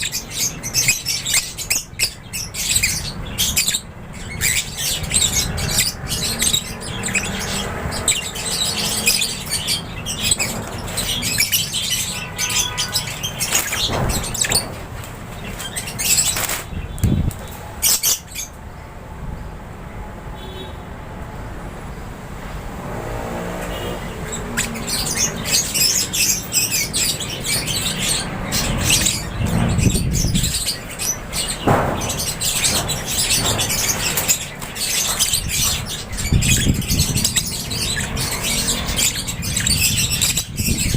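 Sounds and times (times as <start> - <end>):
lovebirds chirping: 0.0 - 18.9, 23.7 - 40.9.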